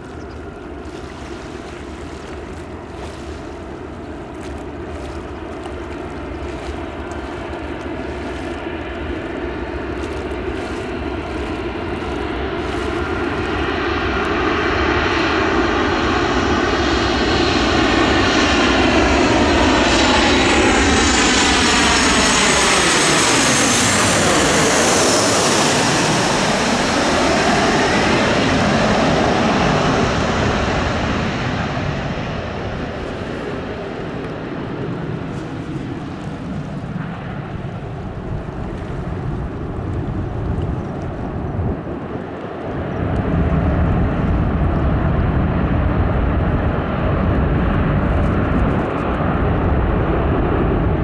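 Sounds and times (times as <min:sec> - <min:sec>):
jet engine roar with whine: 0:00.0 - 0:51.0.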